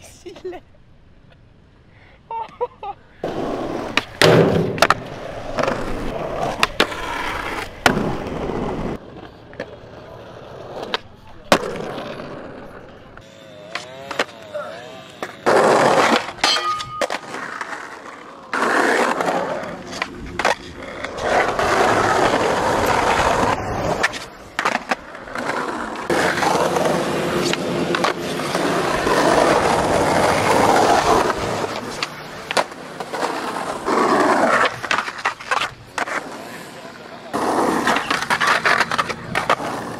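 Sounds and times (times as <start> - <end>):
skateboard wheels rolling on concrete: 0.0 - 39.9
skateboard popping and landing clacks: 3.2 - 36.4, 37.3 - 39.9.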